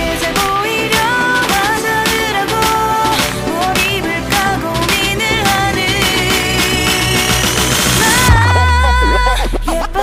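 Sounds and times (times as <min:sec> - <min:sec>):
pop music: 0:00.0 - 0:10.0.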